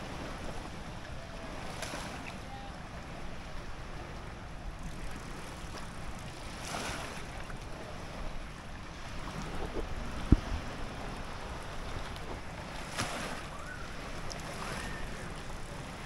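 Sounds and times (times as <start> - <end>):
water: 0.0 - 16.0
wind: 0.0 - 16.0.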